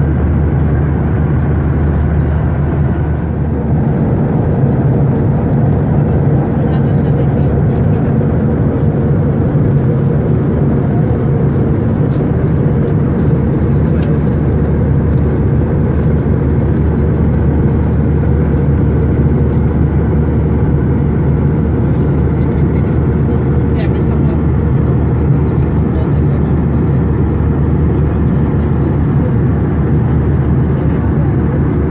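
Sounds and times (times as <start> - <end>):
jet engine roar in cabin: 0.0 - 31.9.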